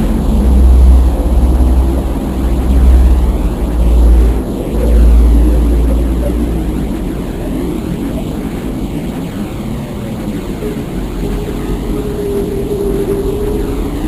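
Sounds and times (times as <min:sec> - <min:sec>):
deep droning rumble: 0:00.0 - 0:14.0
faint steady tone: 0:00.0 - 0:14.0.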